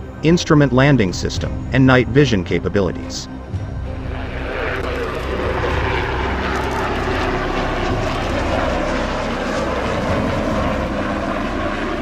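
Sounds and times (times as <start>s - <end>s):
helicopter flying low past: 0.0s - 12.0s.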